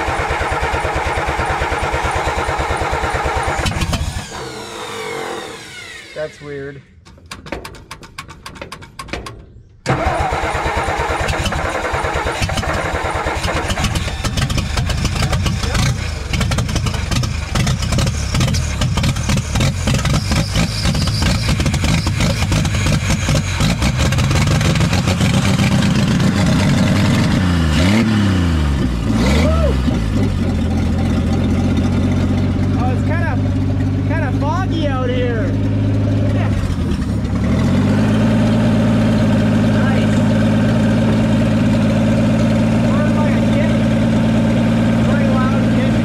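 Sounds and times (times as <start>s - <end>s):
engine revving: 0.0s - 6.8s, 9.9s - 46.0s
truck engine cranking and idling: 0.0s - 46.0s.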